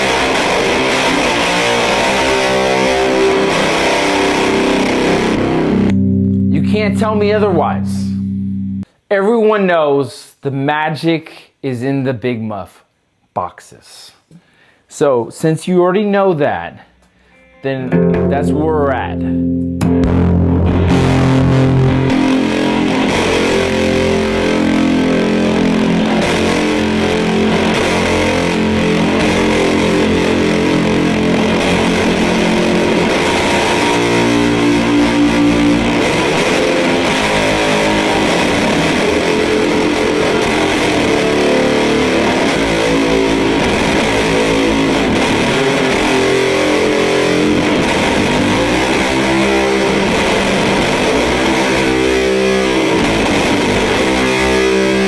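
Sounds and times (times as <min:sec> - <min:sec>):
distorted electric guitar chords: 0:00.0 - 0:08.8, 0:17.4 - 0:55.0.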